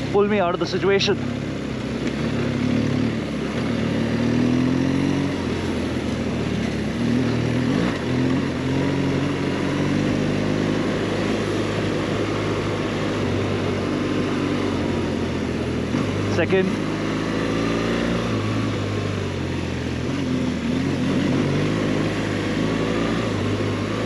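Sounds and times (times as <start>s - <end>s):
motorcycle engine: 0.0s - 24.0s
wind and tyre noise: 0.0s - 24.0s.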